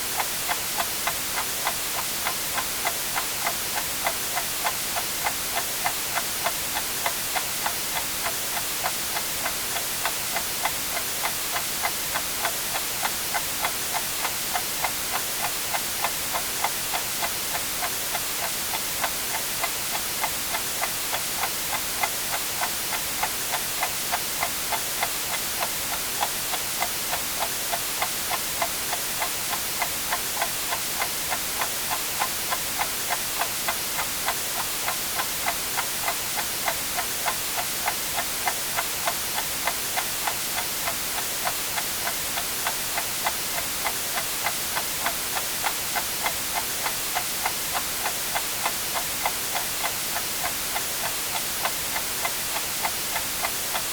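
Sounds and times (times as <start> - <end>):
white-noise hiss: 0.0 - 53.9
clock ticking: 0.2 - 53.9.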